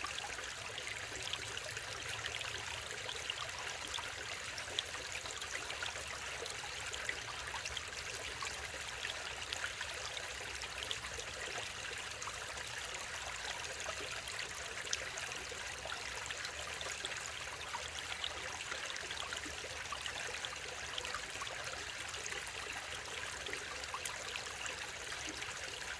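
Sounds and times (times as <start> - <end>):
small splashes and trickles: 0.0 - 25.9
stream flowing: 0.0 - 25.9.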